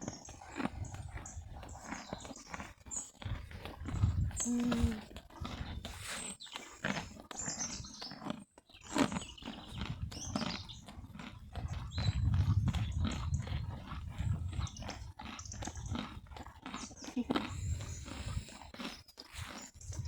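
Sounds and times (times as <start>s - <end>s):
donkeys crunching carrots: 0.0s - 20.0s.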